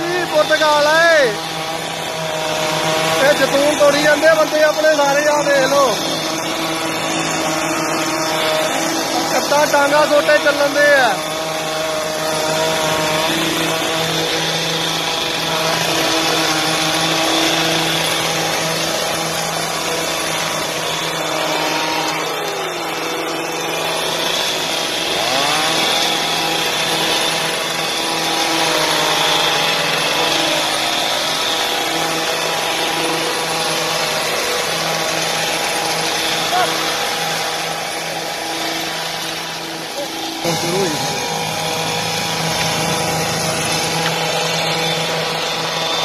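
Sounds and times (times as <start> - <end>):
small two-stroke engine running: 0.0 - 46.0.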